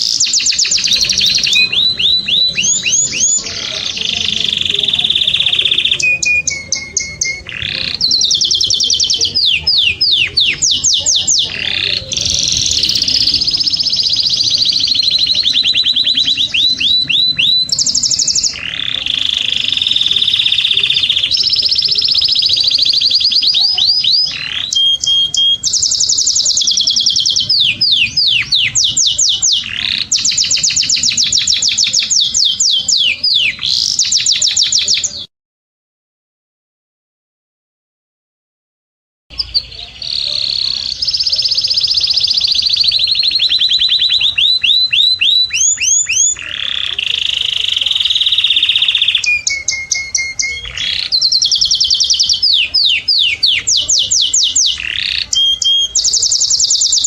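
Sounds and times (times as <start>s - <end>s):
canary singing trills: 0.0s - 35.3s, 39.3s - 57.0s.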